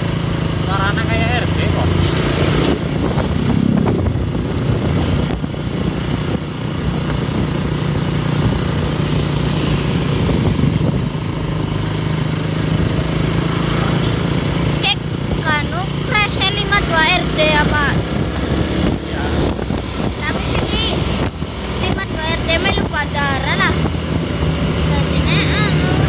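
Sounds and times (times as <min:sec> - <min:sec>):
road and wind noise: 0:00.0 - 0:26.0
vehicle engine running: 0:00.0 - 0:26.0.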